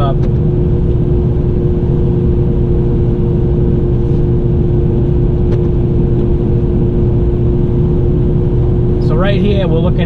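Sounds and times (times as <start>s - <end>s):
steady hum: 0.0s - 10.0s
truck engine and road drone: 0.0s - 10.0s.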